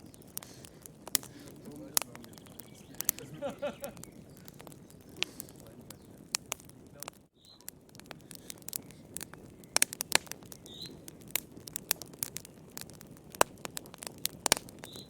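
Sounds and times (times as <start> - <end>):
low rush of flames: 0.0 - 15.0
wood fire crackling and popping: 0.0 - 15.0.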